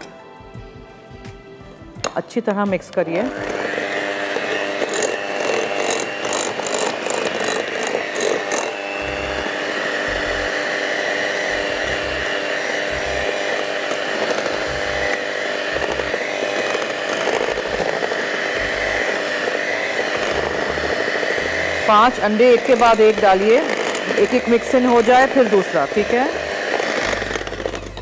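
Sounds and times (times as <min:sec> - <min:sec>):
electric mixer motor whining: 0:02.9 - 0:28.0.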